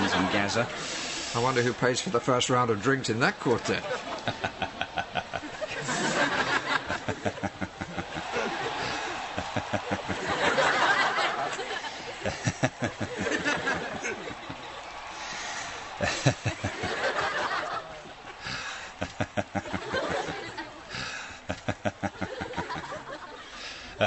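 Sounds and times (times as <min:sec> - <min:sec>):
audience laughter: 0:00.0 - 0:01.9, 0:03.4 - 0:24.0.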